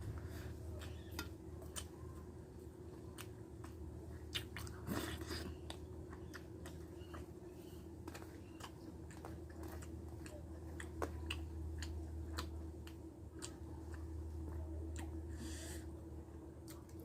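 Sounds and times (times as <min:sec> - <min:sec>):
steady low hum: 0:00.0 - 0:17.0
person chewing: 0:00.2 - 0:02.2, 0:02.9 - 0:15.4.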